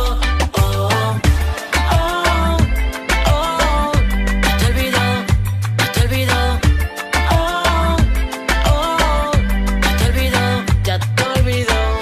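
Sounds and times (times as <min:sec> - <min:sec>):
latin urban instrumental music: 0:00.0 - 0:12.0.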